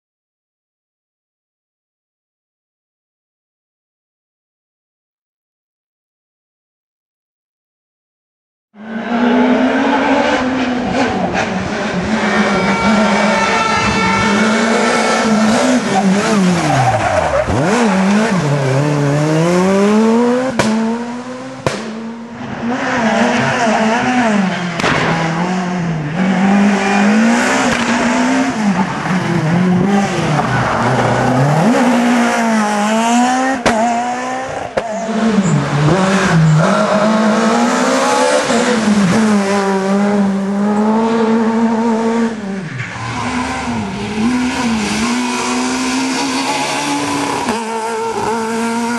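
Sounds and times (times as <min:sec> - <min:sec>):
rally car engines revving: 0:08.8 - 0:48.9.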